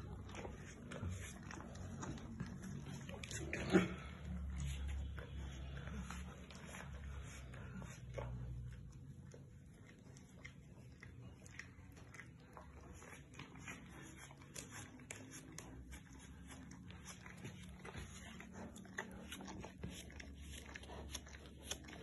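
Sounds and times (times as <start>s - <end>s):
dog licking paw: 0.0s - 22.0s
low steady hum: 0.0s - 22.0s.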